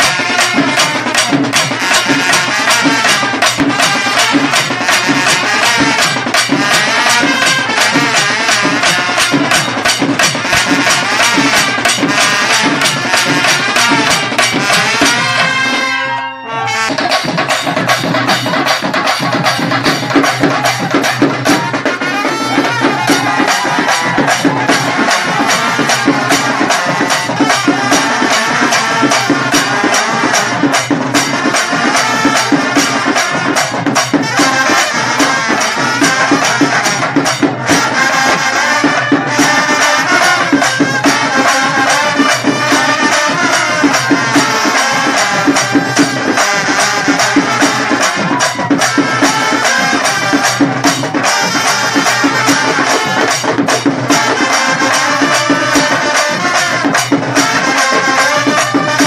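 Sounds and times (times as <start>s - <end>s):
loud music with fast beat: 0.0s - 15.7s, 16.6s - 59.0s.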